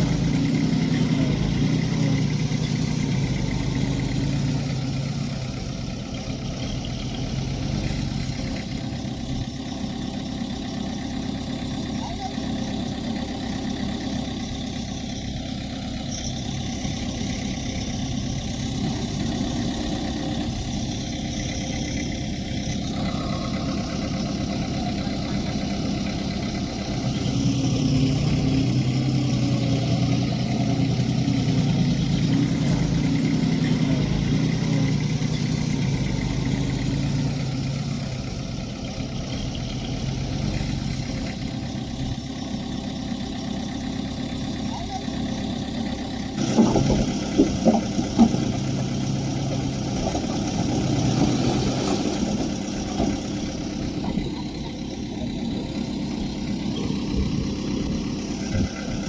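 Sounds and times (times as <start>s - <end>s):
diesel engine of earthmoving machine: 0.0s - 59.0s.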